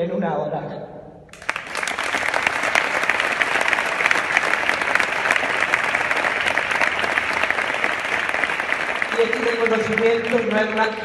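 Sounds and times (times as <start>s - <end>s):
audience applauding: 1.3s - 11.0s.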